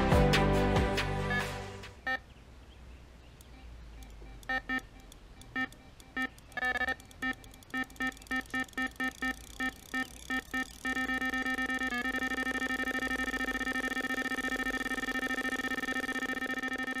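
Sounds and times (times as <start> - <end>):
bite alarm beeping: 1.3 - 2.2, 3.4 - 17.0.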